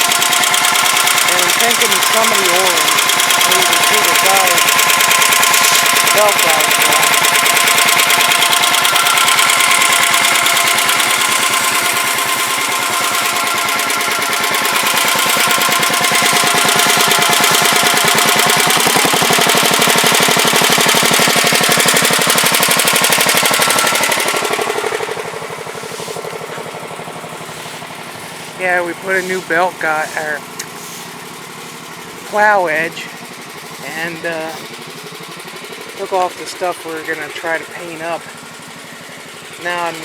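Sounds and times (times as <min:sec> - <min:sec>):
garden tractor engine running: 0:00.0 - 0:40.0.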